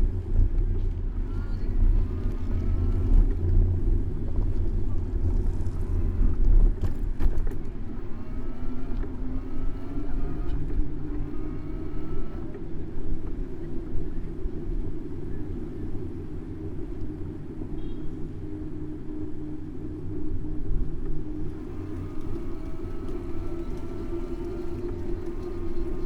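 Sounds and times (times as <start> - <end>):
road and wind rumble: 0.0 - 26.0.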